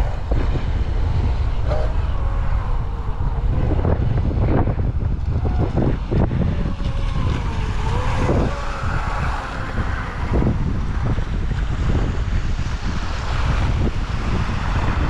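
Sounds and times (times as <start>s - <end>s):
rc boat motor whine: 0.0s - 15.0s
wind buffeting microphone: 0.0s - 15.0s.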